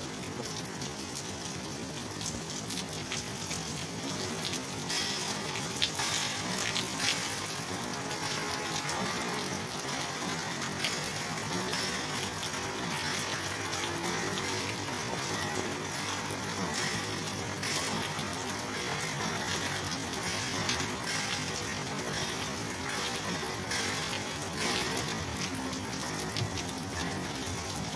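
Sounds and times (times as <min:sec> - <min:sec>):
drips and splashes: 0:00.0 - 0:27.9
rain on concrete: 0:00.0 - 0:27.9.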